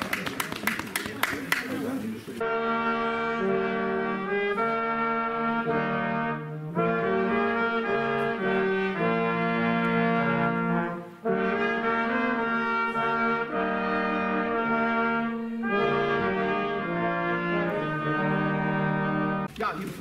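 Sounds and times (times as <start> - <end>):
brass choir playing chords: 2.4 - 19.5.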